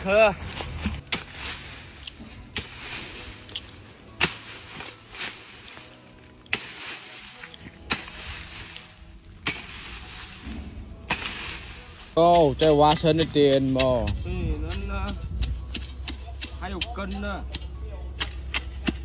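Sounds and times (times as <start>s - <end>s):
digging tool chopping soil: 0.0s - 19.0s
loose earth scraping hiss: 0.0s - 19.0s.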